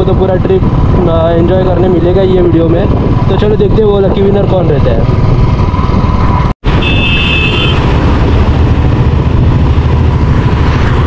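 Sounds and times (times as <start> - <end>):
motorcycle engine running: 0.0 - 6.5, 7.5 - 11.0
wind noise on microphone: 0.0 - 11.0.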